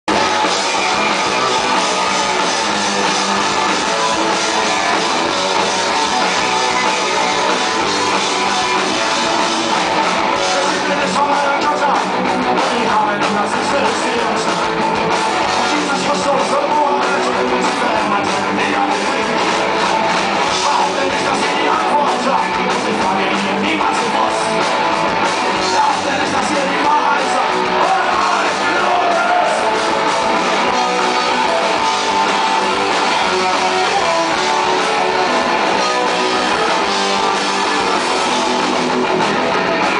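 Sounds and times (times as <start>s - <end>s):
live punk rock band: 0.1s - 39.9s.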